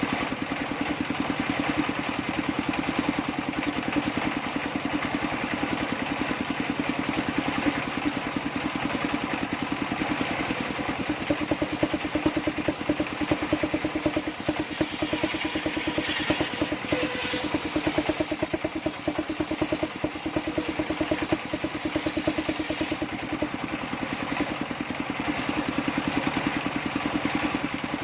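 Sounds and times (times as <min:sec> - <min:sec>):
circular saw machine running: 0:00.0 - 0:28.0.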